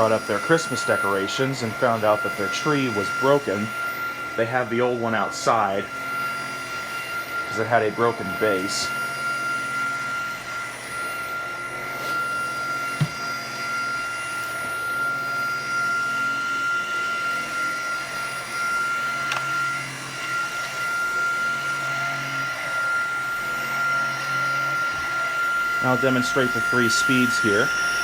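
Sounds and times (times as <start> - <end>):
cordless vacuum running: 0.0 - 28.0.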